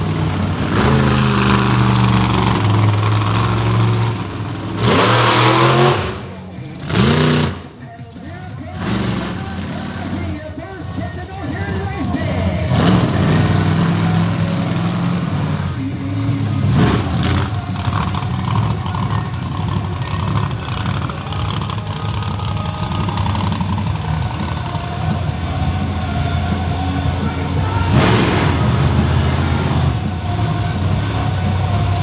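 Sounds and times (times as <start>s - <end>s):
truck engine running loudly: 0.0s - 32.0s.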